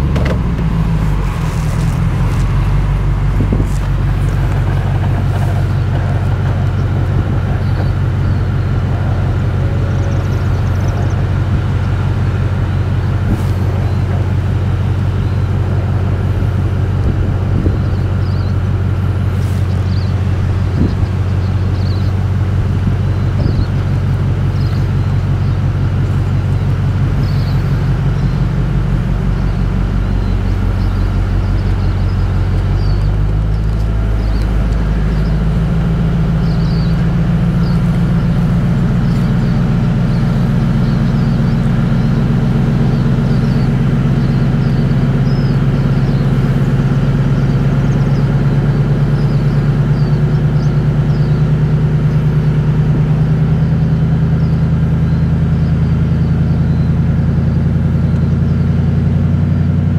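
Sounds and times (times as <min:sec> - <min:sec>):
vehicle engine revving under load: 0:00.0 - 0:59.9.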